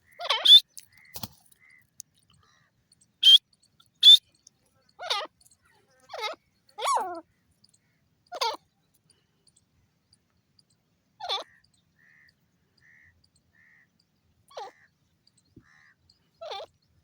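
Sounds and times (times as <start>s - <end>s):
francolin calling: 0.0s - 8.7s, 11.2s - 17.0s.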